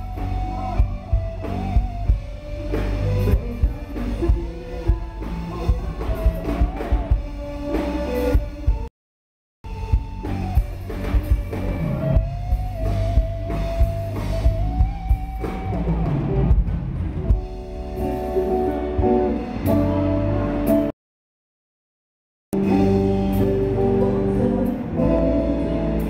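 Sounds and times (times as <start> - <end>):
rock band playing live: 0.0 - 8.9, 9.7 - 20.9, 22.6 - 26.0.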